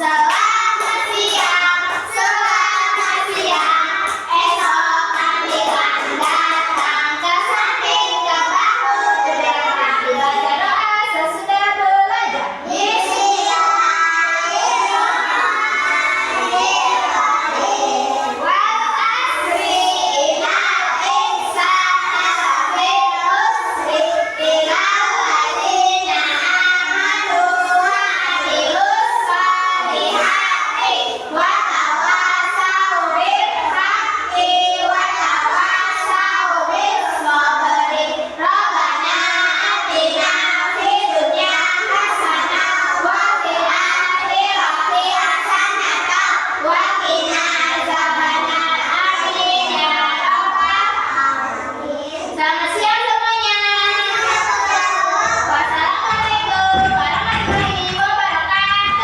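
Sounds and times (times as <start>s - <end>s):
young children singing: 0.0s - 59.0s.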